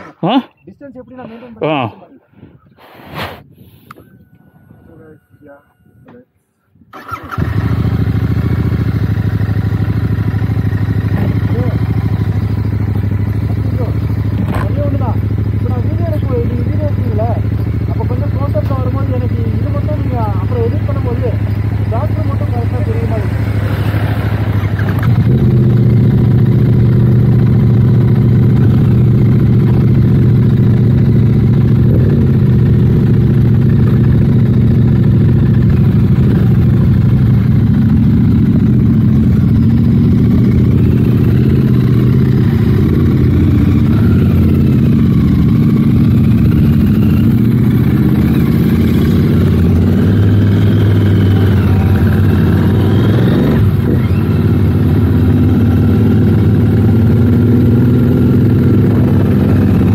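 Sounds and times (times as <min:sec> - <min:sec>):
motorcycle engine running: 0:06.9 - 0:59.9.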